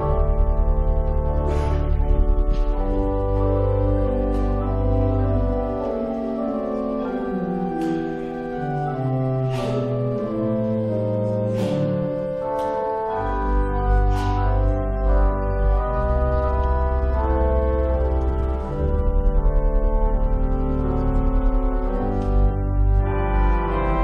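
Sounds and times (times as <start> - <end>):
organ chords: 0.0 - 24.0.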